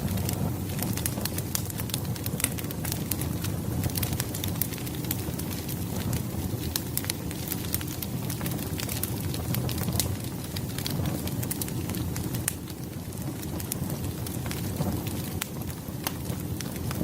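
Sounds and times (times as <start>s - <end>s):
firewood crackling and popping: 0.0s - 17.0s
low rush of flame: 0.0s - 17.0s.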